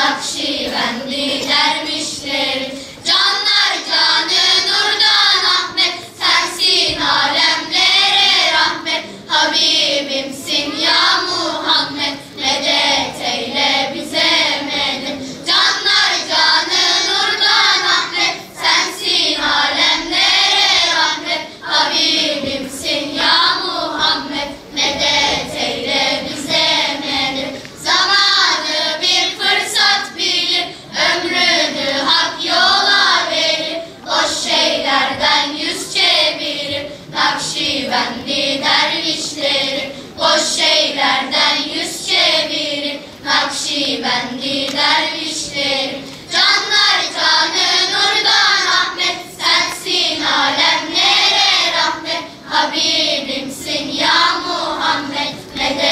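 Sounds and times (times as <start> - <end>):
children's choir singing: 0.0 - 55.9.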